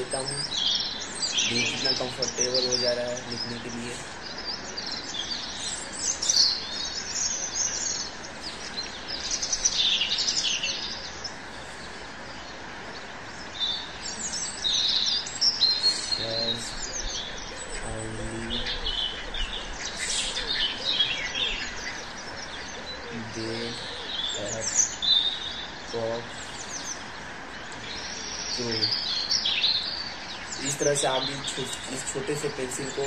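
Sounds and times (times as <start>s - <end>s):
low hums: 0.0s - 33.0s
small birds chirping: 0.0s - 33.0s.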